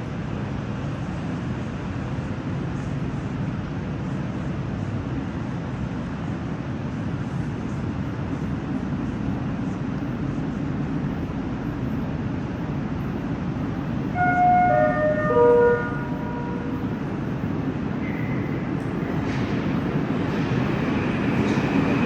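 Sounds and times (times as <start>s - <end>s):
metro train rumble: 0.0s - 22.0s.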